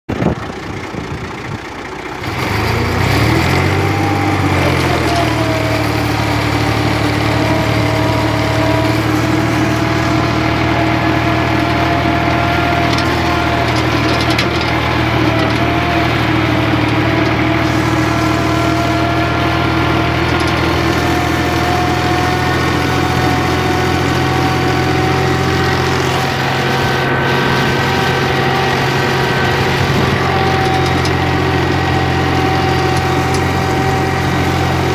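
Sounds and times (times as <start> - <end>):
tractor diesel engine: 0.1 - 34.9.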